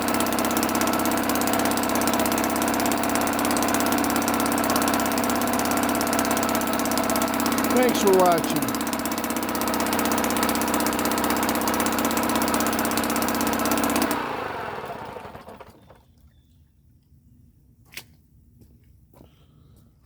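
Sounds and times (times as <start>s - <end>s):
outboard motor running: 0.0s - 16.2s.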